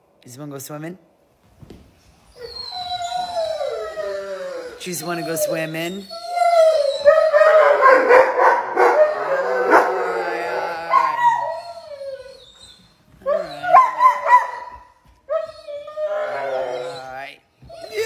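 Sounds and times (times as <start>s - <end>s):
dogs howling and whining: 2.3s - 18.0s.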